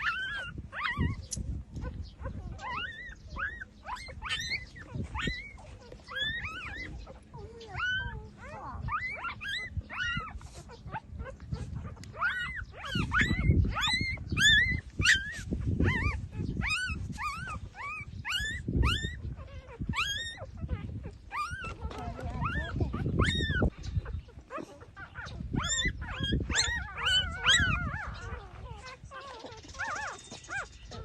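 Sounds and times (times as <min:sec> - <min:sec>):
puppies squeaking and whimpering: 0:00.0 - 0:31.0.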